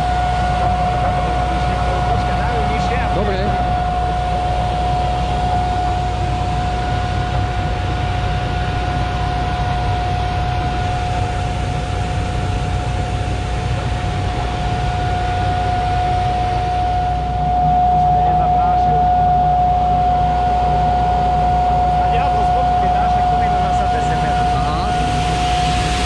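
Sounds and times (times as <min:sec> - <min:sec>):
high whine: 0:00.0 - 0:26.0.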